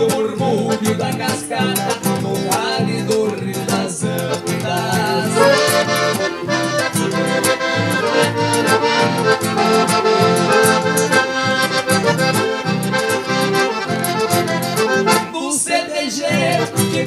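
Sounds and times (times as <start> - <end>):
accordion playing: 0.0 - 2.9, 3.6 - 17.0
bass: 0.0 - 15.3, 16.3 - 17.0
guitar: 0.0 - 17.0.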